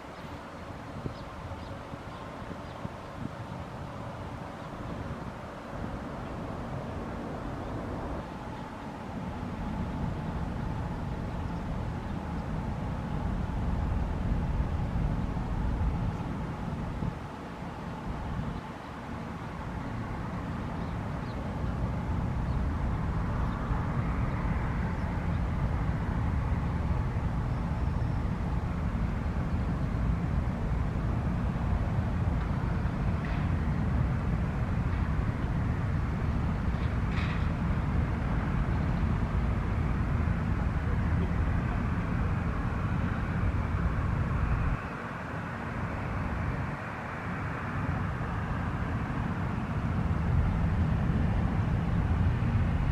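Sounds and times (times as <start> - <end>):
jet engines rumbling: 0.0 - 52.9.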